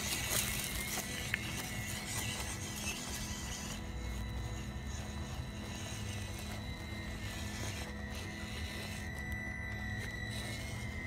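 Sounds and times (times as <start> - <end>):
toy truck motor whining on gravel: 0.0 - 11.0.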